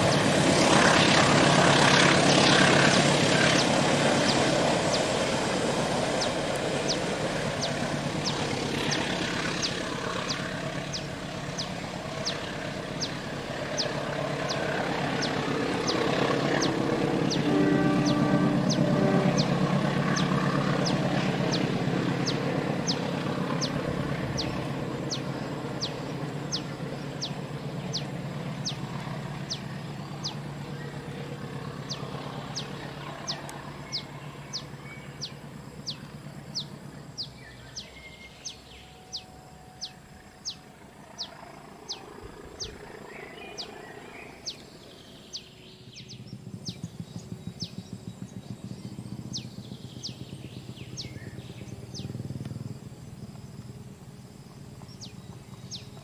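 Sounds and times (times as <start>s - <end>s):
distant train rumble: 0.0s - 56.0s.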